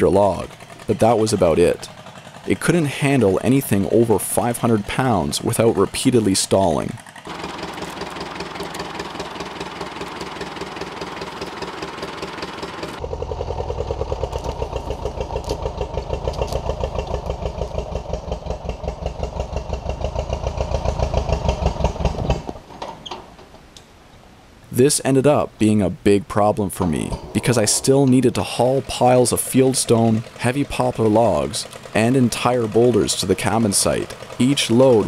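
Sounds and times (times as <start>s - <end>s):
tractor engine idling: 0.0s - 22.8s, 26.7s - 35.0s
tractor engine pulsing under load: 0.0s - 23.6s, 26.7s - 35.0s.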